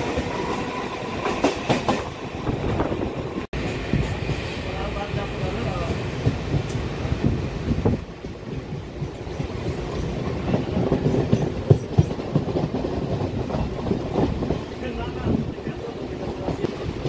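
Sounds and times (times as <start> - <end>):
train rumbling from inside coach: 0.0 - 17.0.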